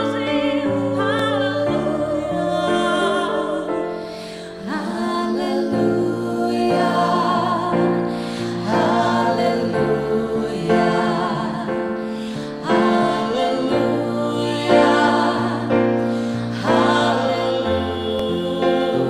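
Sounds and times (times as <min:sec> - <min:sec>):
person singing: 0:00.0 - 0:19.0
slow held chords: 0:00.0 - 0:19.0.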